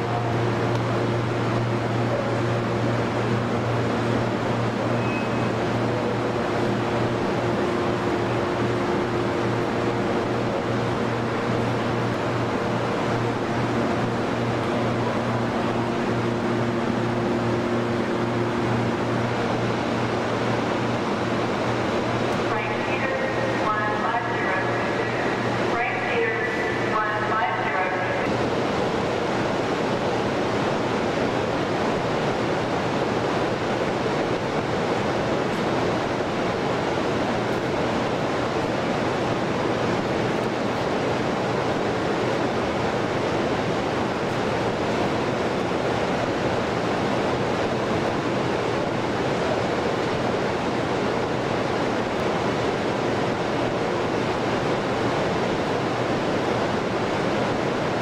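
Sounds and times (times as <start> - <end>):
large hall background roar: 0.0 - 58.0.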